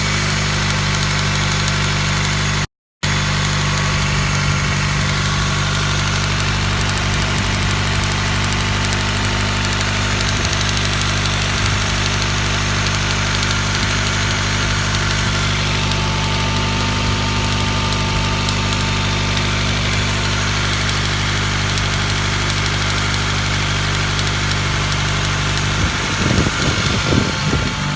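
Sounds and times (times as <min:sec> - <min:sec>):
car engine idling with ticking: 0:00.0 - 0:27.9
engine rumble: 0:00.0 - 0:27.9.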